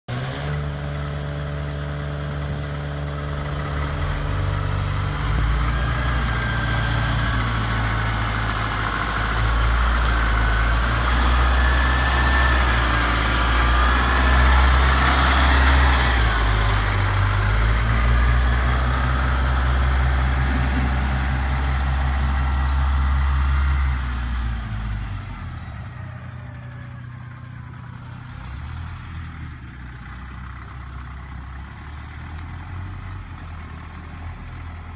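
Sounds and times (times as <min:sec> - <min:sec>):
wheel loader diesel engine: 0:00.1 - 0:34.9.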